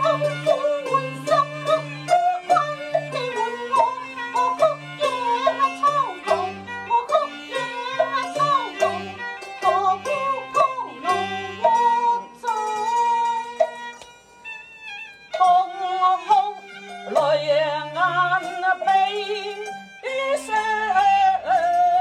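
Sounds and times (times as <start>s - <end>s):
plucked notes: 0.0s - 14.4s, 15.2s - 22.0s
bowed string melody: 0.0s - 22.0s.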